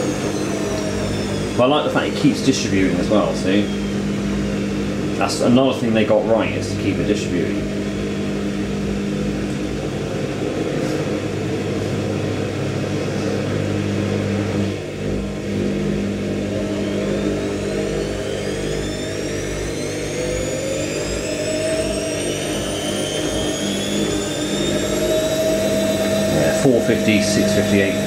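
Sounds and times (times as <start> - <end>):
washing machine motor humming: 0.0 - 28.0
washing machine spin whine: 0.0 - 28.0.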